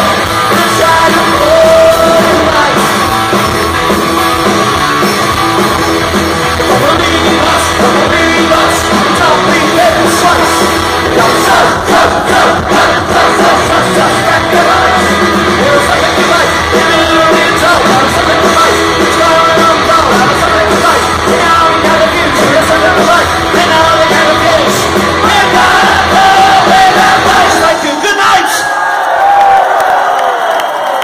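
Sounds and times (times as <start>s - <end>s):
live punk rock band: 0.0s - 28.2s
crowd yelling: 0.0s - 31.0s.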